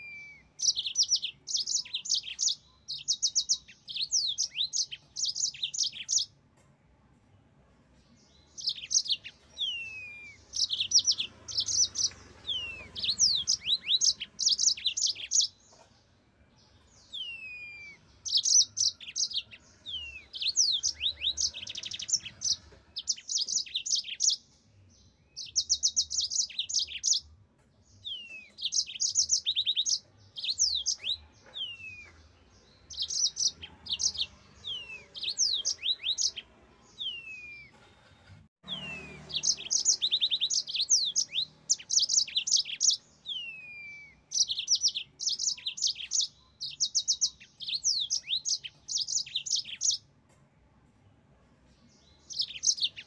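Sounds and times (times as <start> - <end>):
canary singing trills: 0.0 - 6.4, 8.2 - 27.3, 27.9 - 37.9, 38.6 - 50.1, 52.0 - 53.0.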